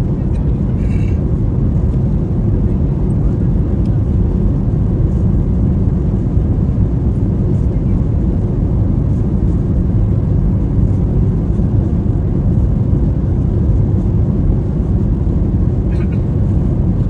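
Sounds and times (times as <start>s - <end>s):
aircraft cabin engine drone: 0.0s - 17.0s.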